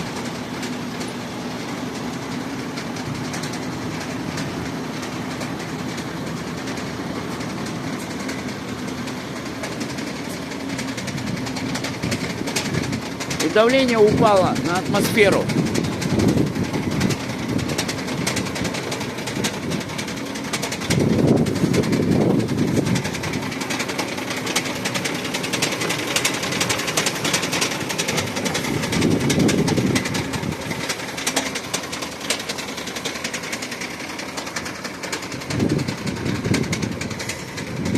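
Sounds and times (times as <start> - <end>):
diesel engine knocking: 0.0 - 37.9.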